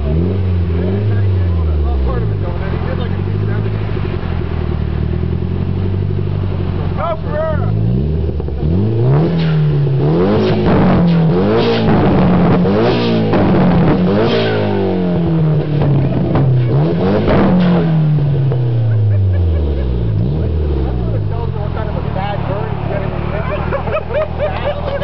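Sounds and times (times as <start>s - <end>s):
exhaust cracks: 0.0s - 25.0s
turbocharged engine revving: 0.0s - 25.0s.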